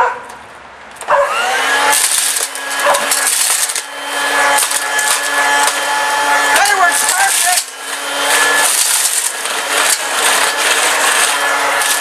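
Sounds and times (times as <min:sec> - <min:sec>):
hand vacuum motor whine: 0:01.1 - 0:12.0.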